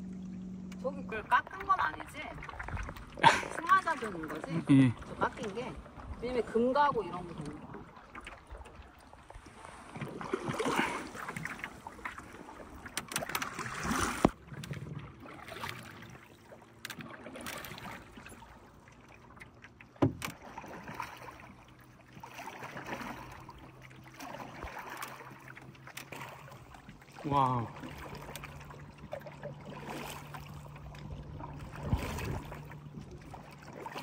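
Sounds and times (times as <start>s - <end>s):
paddle strokes splashing water: 0.0s - 34.0s.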